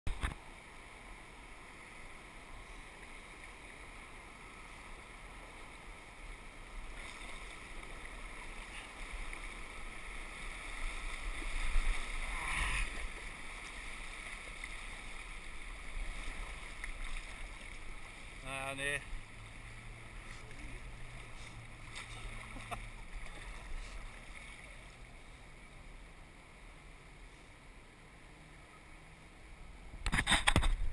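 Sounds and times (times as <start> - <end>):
rushing white water: 0.1 - 30.9
distant weir flow: 0.4 - 29.6.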